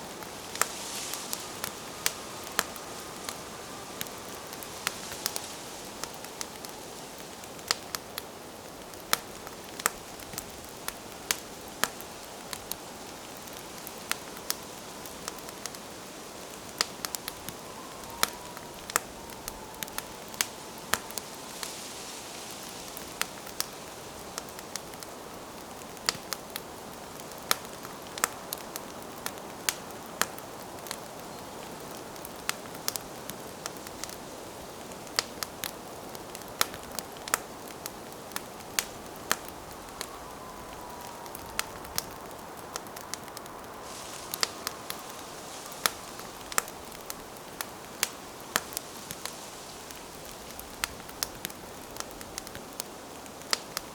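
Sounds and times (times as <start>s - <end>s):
fire hissing softly: 0.0s - 53.9s
wood crackling and popping: 0.0s - 53.9s.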